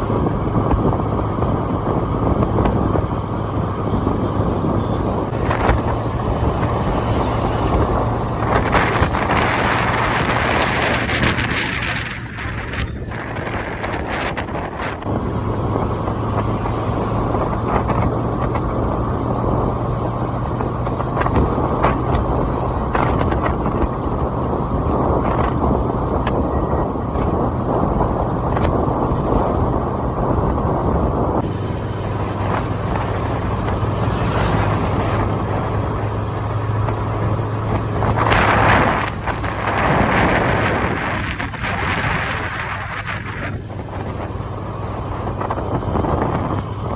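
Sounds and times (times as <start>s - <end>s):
motorcycle engine running: 0.0s - 46.9s
road noise: 0.0s - 46.9s
wind rushing past microphone: 0.0s - 46.9s.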